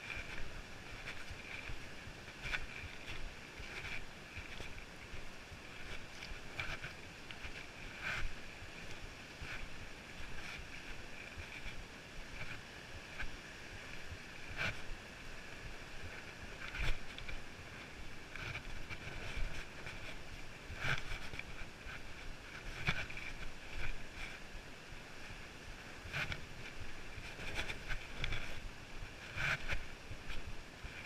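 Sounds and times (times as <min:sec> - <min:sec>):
footsteps on rocky trail: 0:00.0 - 0:15.0, 0:15.6 - 0:24.6, 0:26.1 - 0:31.0
wind hiss on microphone: 0:00.0 - 0:31.0.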